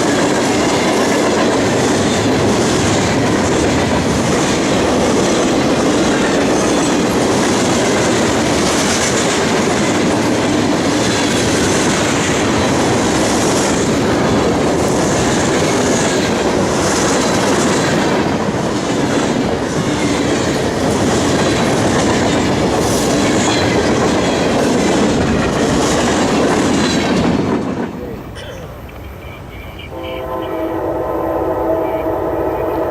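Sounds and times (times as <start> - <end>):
wheels clacking over rail joints: 0.0 - 29.1
train cars rumbling past: 0.0 - 32.9.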